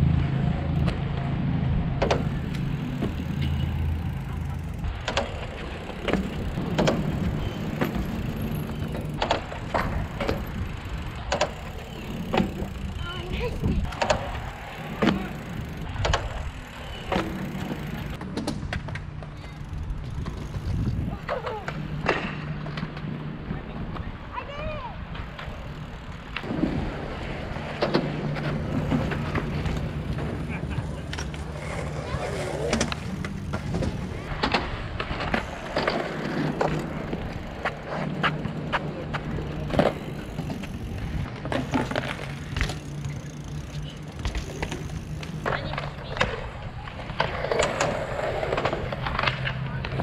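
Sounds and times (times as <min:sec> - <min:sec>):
wheels rolling on concrete: 0:00.0 - 0:50.0
bike clicks and knocks: 0:01.9 - 0:24.1, 0:25.1 - 0:26.7, 0:27.3 - 0:50.0.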